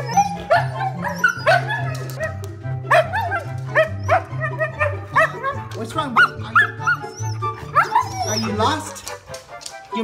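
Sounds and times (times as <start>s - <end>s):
dog whining: 0.0s - 9.1s.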